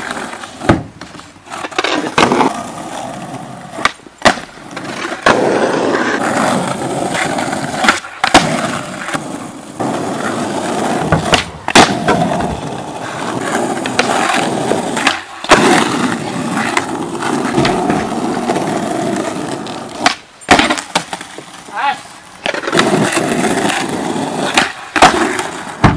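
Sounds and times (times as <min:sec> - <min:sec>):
skateboard clacking on ground: 0:00.0 - 0:25.9
skateboard wheels rolling on asphalt: 0:00.0 - 0:25.9.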